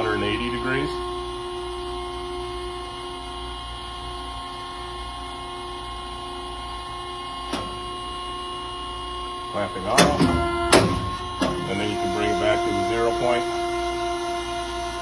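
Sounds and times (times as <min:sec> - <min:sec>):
hydraulic unit humming and whining: 0:00.0 - 0:15.0.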